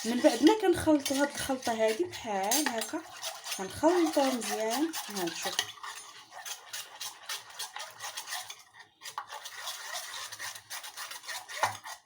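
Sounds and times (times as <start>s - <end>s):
spoon scraping a saucepan: 0.0s - 12.0s.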